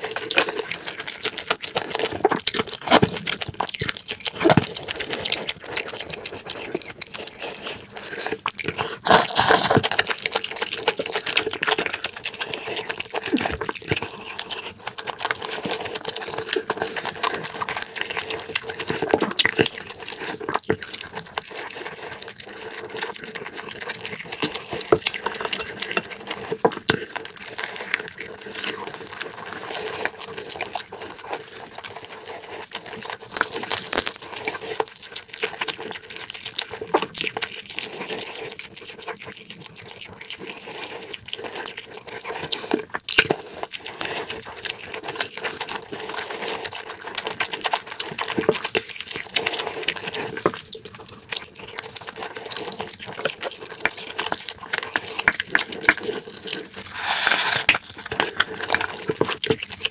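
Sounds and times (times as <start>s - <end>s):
wet chewing and mouth clicks: 0.0s - 59.9s.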